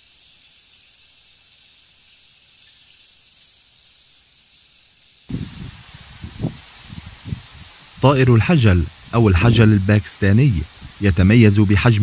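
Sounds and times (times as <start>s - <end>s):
high-pitched background hiss: 0.0s - 12.0s.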